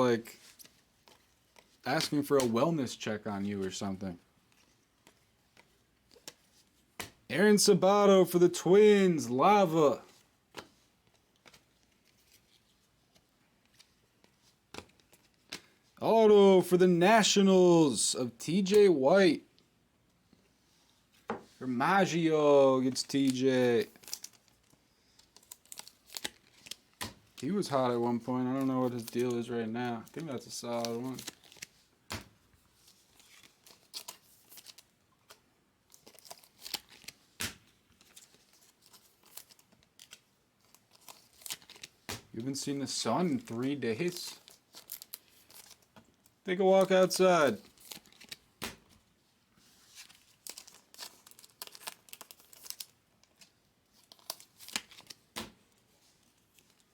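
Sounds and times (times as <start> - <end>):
trading cards rustling and clicking: 0.2 - 7.3, 7.9 - 16.0, 21.1 - 49.0, 49.6 - 56.9.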